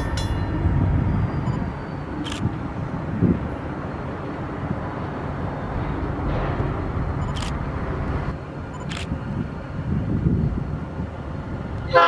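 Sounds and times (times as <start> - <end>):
diesel locomotive engine: 0.0 - 12.0.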